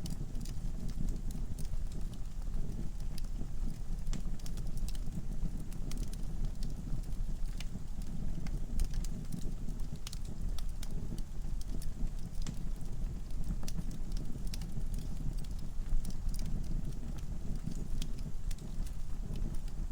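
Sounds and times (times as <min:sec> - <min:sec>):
fire rumbling: 0:00.0 - 0:19.9.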